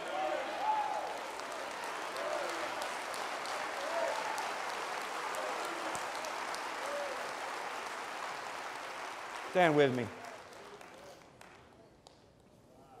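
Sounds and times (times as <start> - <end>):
congregation applauding: 0.0 - 11.7.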